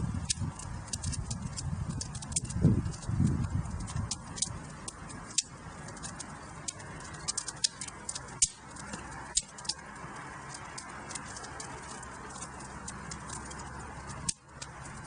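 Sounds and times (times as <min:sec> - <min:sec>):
soft fire hiss: 0:00.0 - 0:15.0
wood fire crackling and popping: 0:00.0 - 0:15.0.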